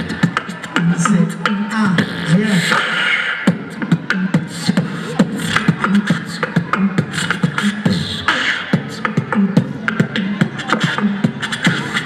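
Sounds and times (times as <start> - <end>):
group beatboxing: 0.0 - 12.0.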